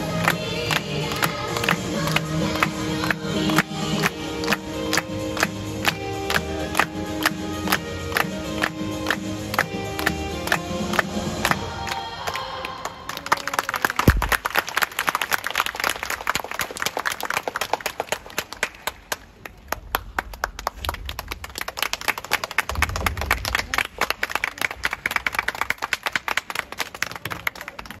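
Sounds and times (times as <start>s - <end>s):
crowd clapping: 0.0s - 28.0s.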